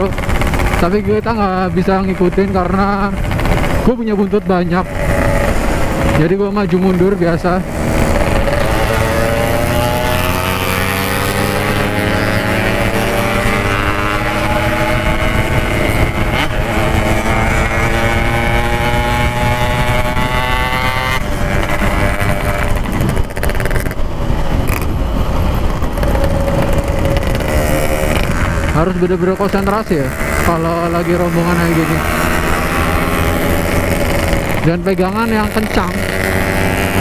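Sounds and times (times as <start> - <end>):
two-stroke motorcycle engine revving: 0.0 - 37.0
wind rumble on microphone: 0.0 - 37.0.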